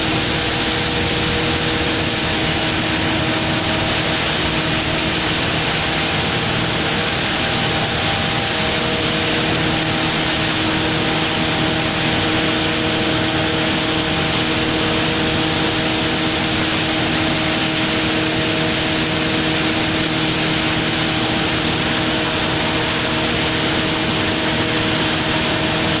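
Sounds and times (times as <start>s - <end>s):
machine mechanical drone: 0.0s - 26.0s.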